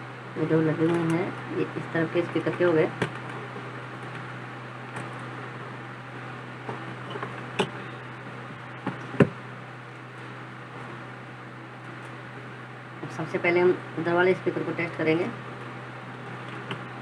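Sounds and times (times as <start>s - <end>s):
steady background hum and hiss: 0.0s - 17.0s.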